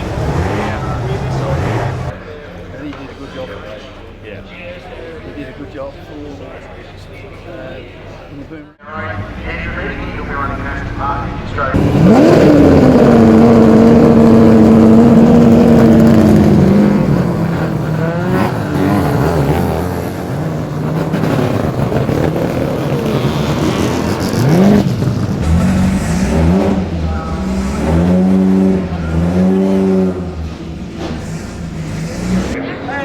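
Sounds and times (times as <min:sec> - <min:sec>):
racing car engines revving: 0:00.0 - 0:03.3, 0:08.9 - 0:33.0.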